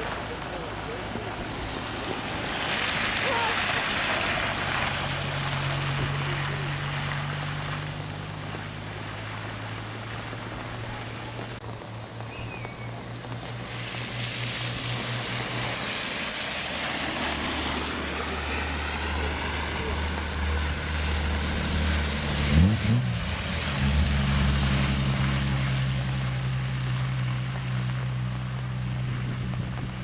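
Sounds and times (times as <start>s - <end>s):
tyres hissing through water: 0.0s - 29.1s
car engine low hum: 0.0s - 30.0s
passing car tyres swishing: 0.0s - 30.0s.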